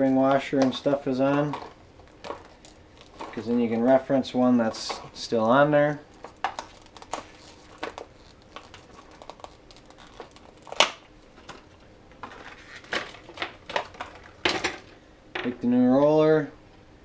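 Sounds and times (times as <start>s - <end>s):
package crinkling and rustling: 0.0s - 15.0s.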